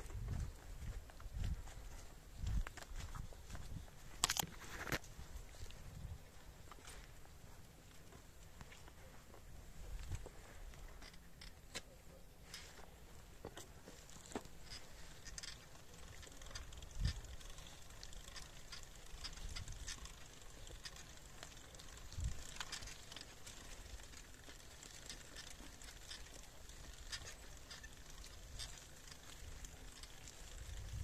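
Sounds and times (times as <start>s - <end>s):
dry grass crackling: 0.0s - 11.7s, 12.4s - 31.0s.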